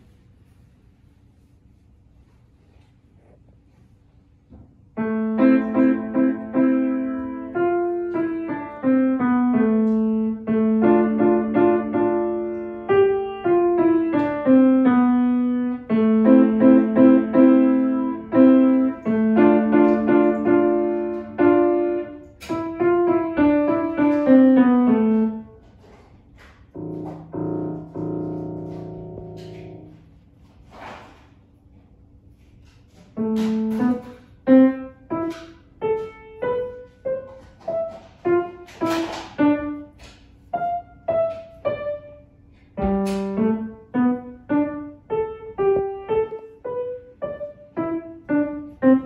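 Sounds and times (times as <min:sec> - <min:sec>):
low piano notes and chords: 0:04.9 - 0:25.8, 0:26.7 - 0:30.2, 0:33.2 - 0:49.0
child playing grand piano: 0:05.0 - 0:26.1, 0:26.7 - 0:30.2, 0:33.1 - 0:49.0.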